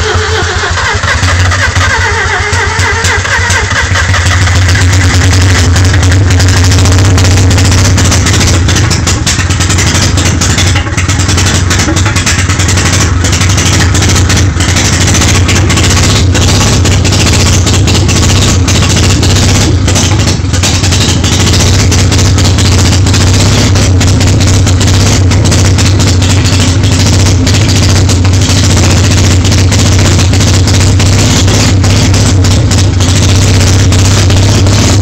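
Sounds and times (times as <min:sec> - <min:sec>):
rotary engine running uneven: 0:00.0 - 0:35.0
sharp exhaust cracks: 0:00.0 - 0:35.0.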